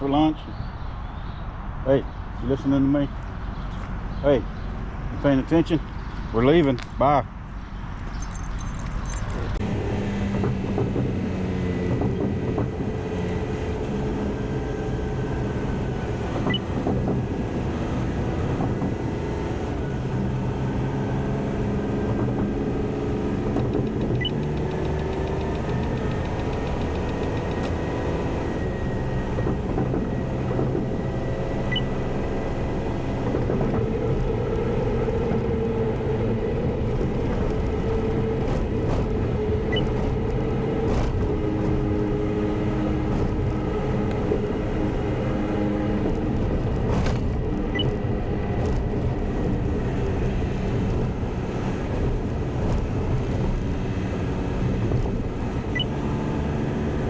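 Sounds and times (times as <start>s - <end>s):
road rumble: 0.0s - 57.0s
truck diesel engine running: 9.6s - 57.0s.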